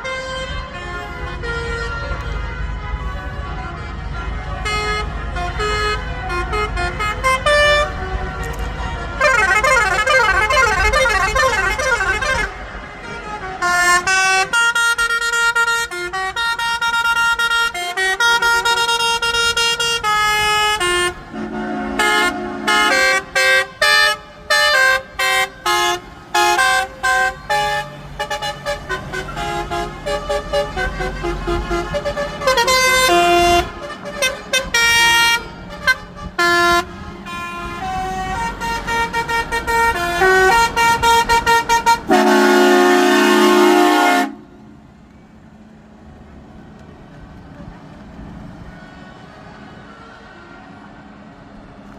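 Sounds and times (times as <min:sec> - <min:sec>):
truck air horns playing tunes: 0:00.0 - 0:44.8.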